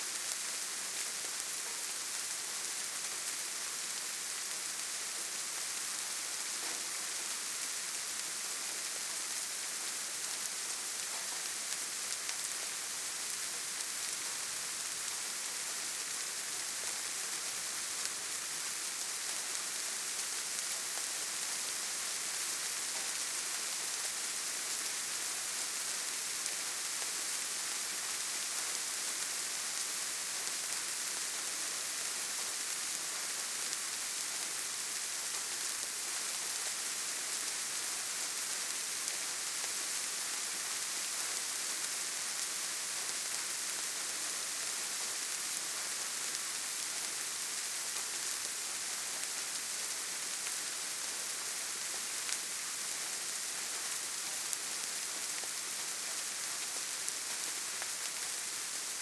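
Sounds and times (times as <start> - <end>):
steady rainfall hiss: 0.0 - 59.0.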